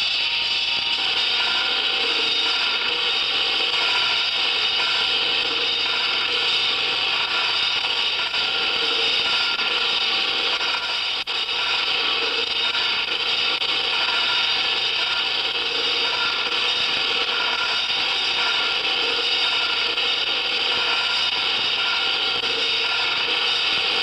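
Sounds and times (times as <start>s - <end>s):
harsh machine-like noise music: 0.0s - 24.0s.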